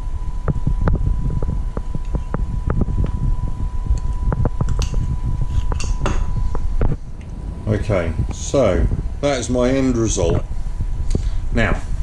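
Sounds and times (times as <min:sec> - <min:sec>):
fan-like hum: 0:00.0 - 0:12.0
heavy low rumble: 0:00.0 - 0:12.0
thin constant whine: 0:00.0 - 0:12.0.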